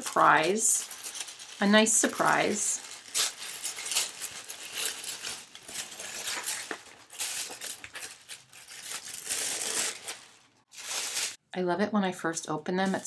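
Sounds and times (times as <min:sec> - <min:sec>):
tissue paper rustling: 0:00.0 - 0:11.4.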